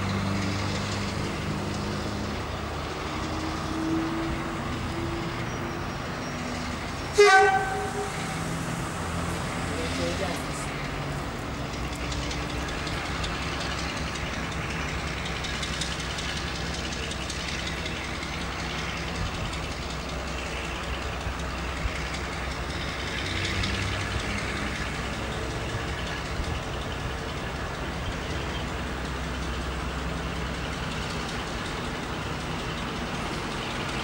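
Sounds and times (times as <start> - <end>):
diesel locomotive engines throbbing: 0.0 - 34.0.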